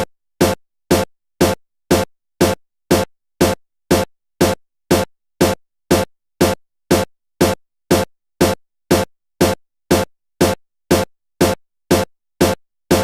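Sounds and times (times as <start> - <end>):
electronic music with punchy beat: 0.0 - 13.0.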